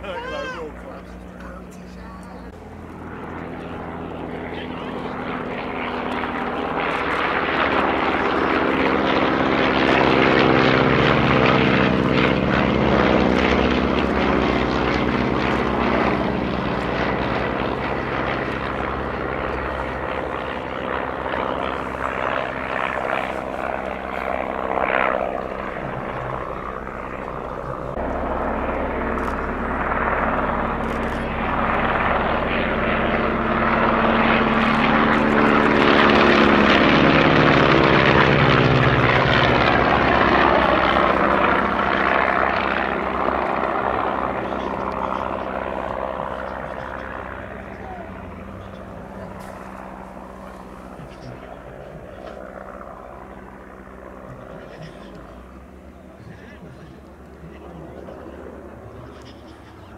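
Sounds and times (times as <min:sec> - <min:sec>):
biplane engines droning: 0:00.0 - 0:59.9.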